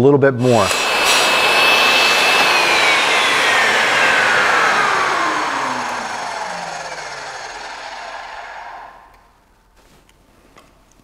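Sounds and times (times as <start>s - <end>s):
table saw motor whine falling: 0.4s - 9.4s.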